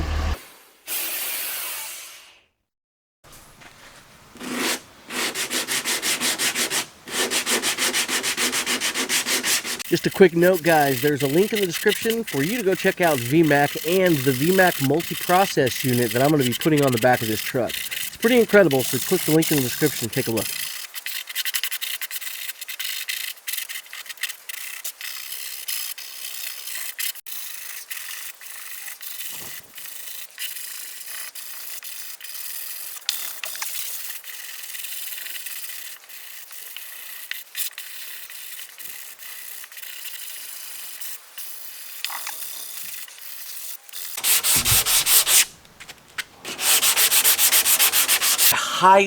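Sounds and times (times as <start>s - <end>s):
sandpaper rubbing on filler: 4.3s - 33.0s, 33.8s - 48.6s.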